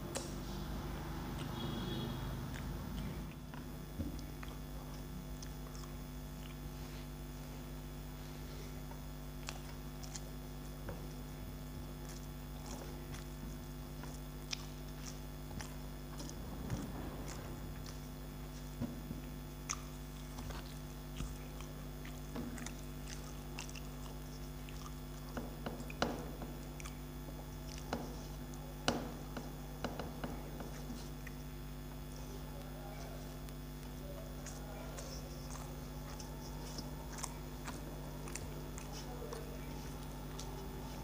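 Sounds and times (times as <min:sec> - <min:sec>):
chewing: 0:00.0 - 0:41.0
fingers mixing rice: 0:00.0 - 0:41.0.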